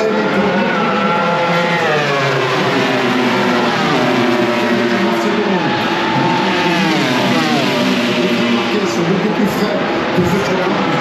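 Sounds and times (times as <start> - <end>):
race bike engines at high revs: 0.0 - 11.0.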